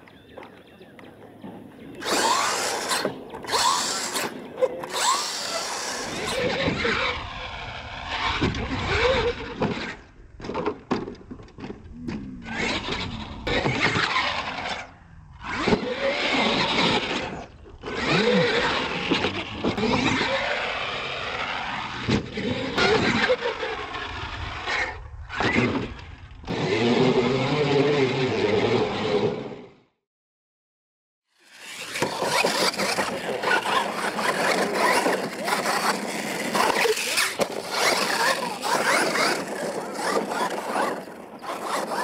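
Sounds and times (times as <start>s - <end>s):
toy truck motors whining: 1.9s - 10.6s, 12.4s - 29.8s, 31.4s - 42.0s.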